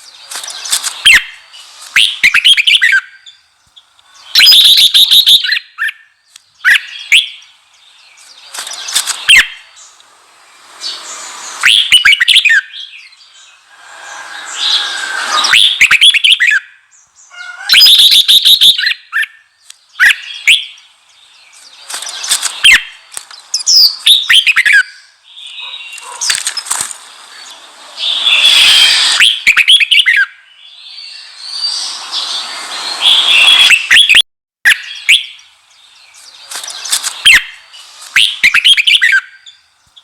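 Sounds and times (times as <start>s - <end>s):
bird singing loud phrases: 0.0s - 40.0s.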